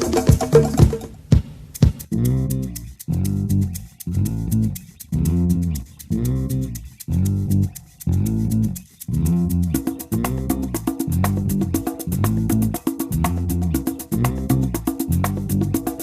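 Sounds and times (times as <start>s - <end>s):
light percussion ticking: 0.0s - 16.0s
plucked guitar and bass: 2.1s - 16.0s.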